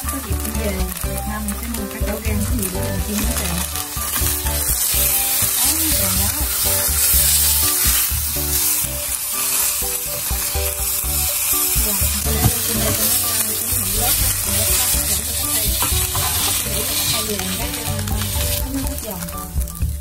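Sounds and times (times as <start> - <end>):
background music: 0.0 - 20.0
crepe sizzling in oil: 0.0 - 20.0.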